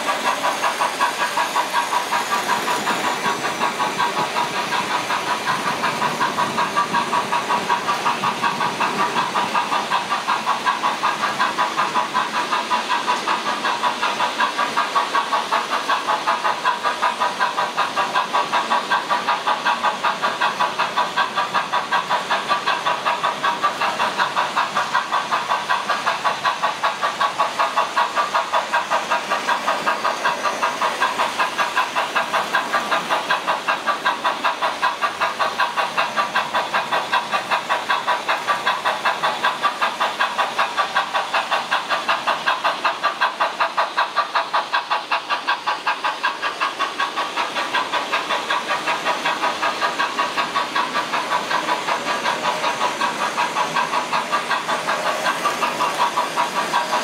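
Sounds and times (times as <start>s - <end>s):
model steam locomotive chuffing: 0.0s - 57.0s.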